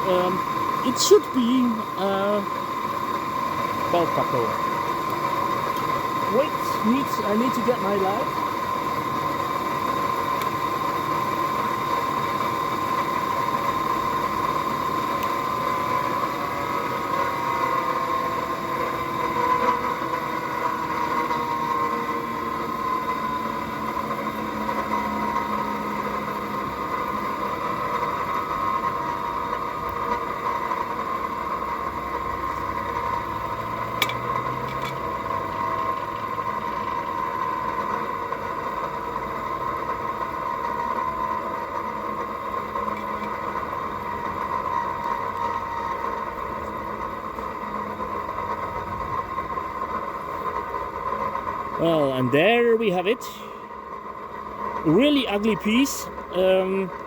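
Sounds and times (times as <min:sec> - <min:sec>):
motor hum: 0:00.0 - 0:57.0.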